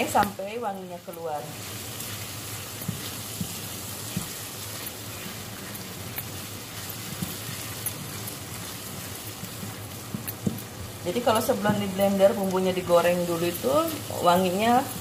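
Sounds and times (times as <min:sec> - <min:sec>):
spice paste sizzling in oil: 0:00.0 - 0:15.0.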